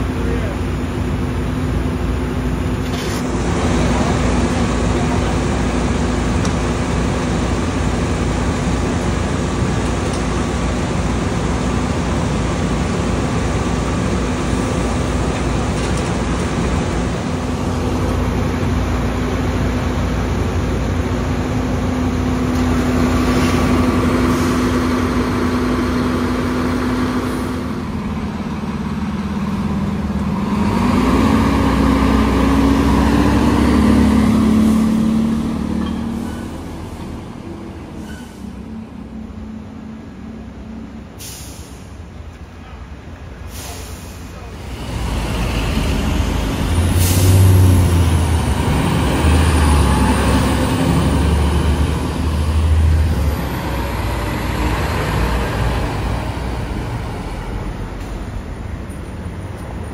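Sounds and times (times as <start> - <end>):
diesel truck engines idling: 0.0 - 59.9.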